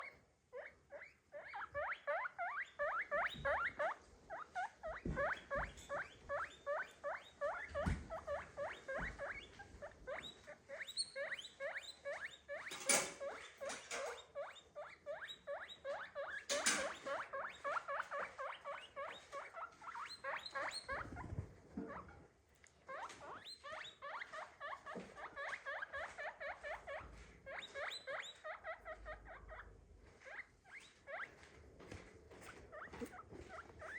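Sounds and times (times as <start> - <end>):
guinea pig squeaking: 0.0 - 22.2, 22.8 - 31.5, 32.4 - 33.9.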